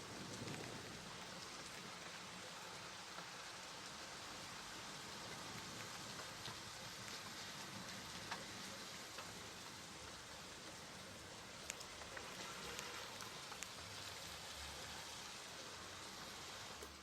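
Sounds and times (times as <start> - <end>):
raindrops striking a surface: 0.0 - 17.0
steady rain hiss: 0.0 - 17.0.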